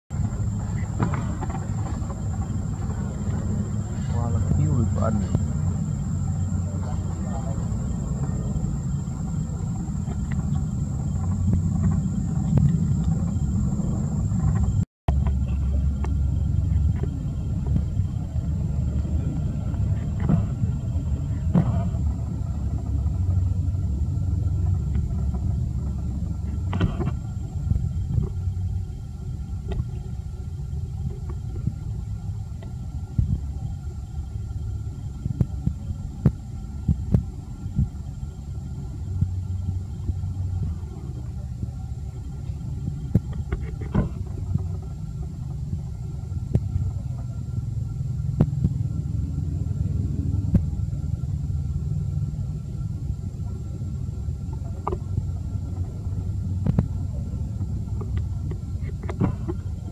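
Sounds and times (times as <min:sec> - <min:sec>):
low outdoor rumble: 0:00.1 - 0:59.9.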